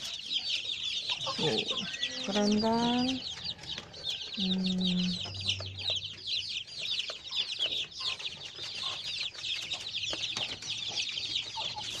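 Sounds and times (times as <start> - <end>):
young chickens peeping: 0.0 - 12.0.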